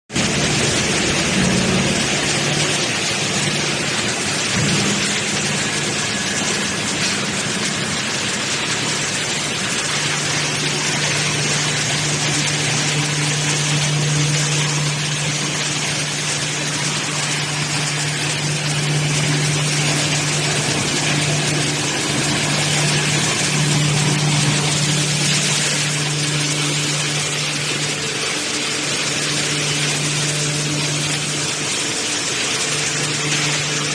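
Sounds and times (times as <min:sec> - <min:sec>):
wood chipper running: 0:00.1 - 0:33.9.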